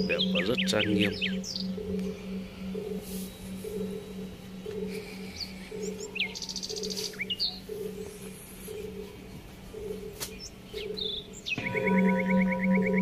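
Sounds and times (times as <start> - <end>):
bird trill: 0.0 - 13.0
birds chirping: 0.0 - 13.0
faint pulsing low hum: 0.0 - 13.0.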